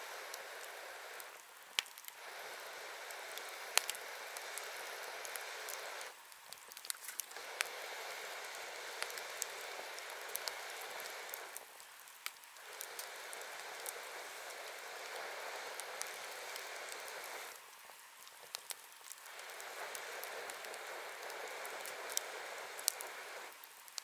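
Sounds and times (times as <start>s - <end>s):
wood fire hissing and crackling: 0.0s - 24.0s.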